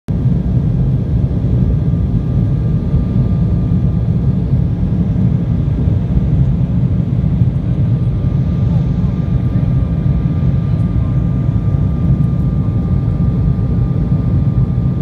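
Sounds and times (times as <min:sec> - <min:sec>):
faint steady whine: 0:00.1 - 0:15.0
jet engines and rushing air: 0:00.1 - 0:15.0.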